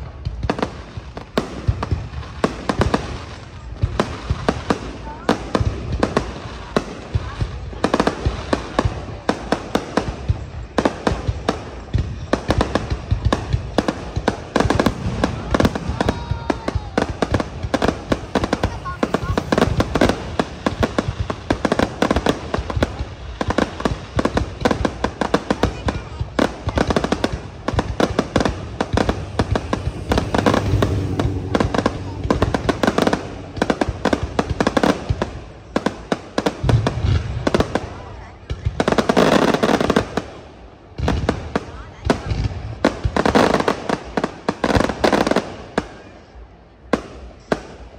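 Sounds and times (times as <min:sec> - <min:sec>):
fireworks bursts and bangs: 0:00.0 - 0:47.9.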